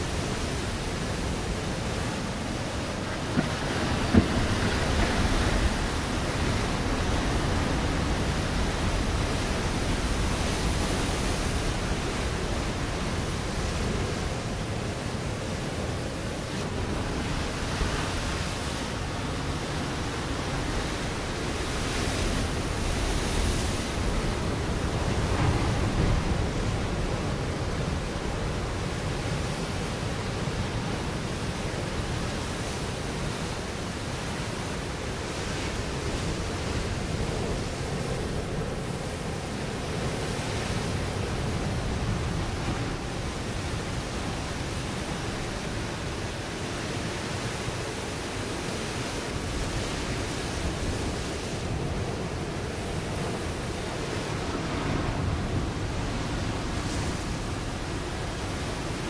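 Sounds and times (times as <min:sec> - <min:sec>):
waves breaking on rocky shore: 0:00.0 - 0:59.0.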